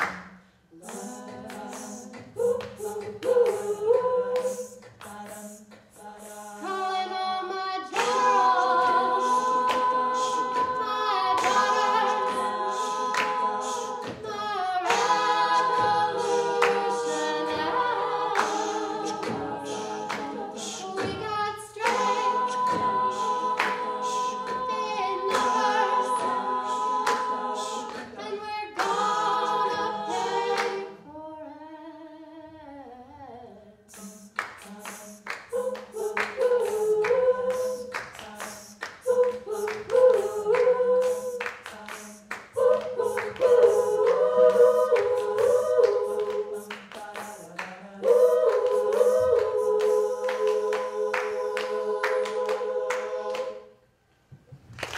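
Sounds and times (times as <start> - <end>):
women singing a cappella: 0.0 - 53.8.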